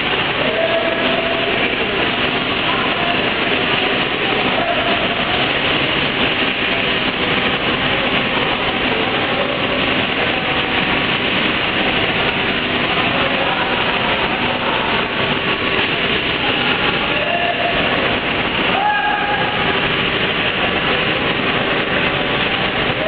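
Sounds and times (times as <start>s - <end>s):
production line machinery running: 0.0s - 23.0s.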